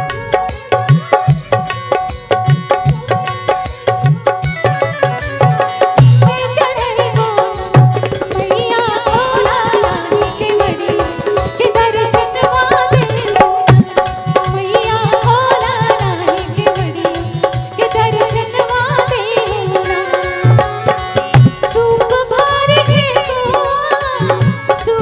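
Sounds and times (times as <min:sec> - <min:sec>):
steady drum beat: 0:00.0 - 0:25.0.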